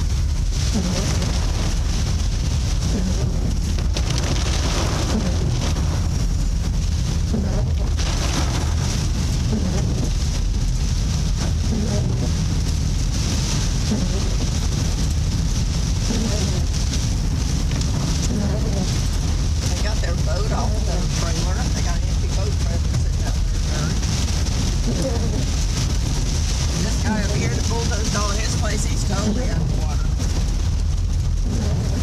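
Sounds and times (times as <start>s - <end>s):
road noise hiss: 0.0s - 32.0s
vehicle engine rumble: 0.0s - 32.0s.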